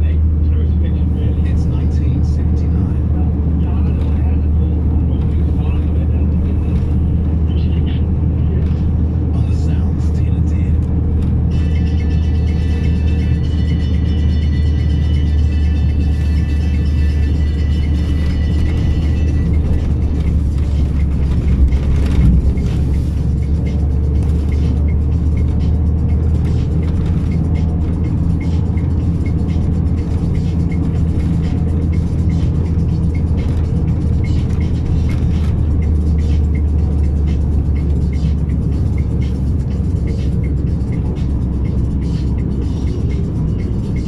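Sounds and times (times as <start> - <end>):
truck engine droning: 0.0 - 44.0.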